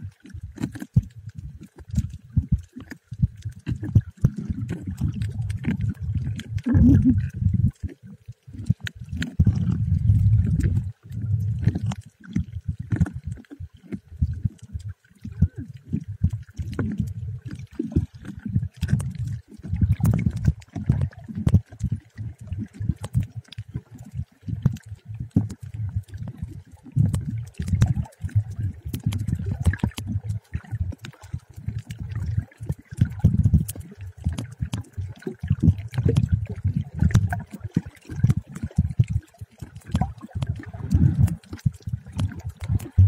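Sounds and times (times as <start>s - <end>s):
small underwater clicks: 0.0s - 43.0s
underwater rumbling and sloshing: 0.0s - 43.0s.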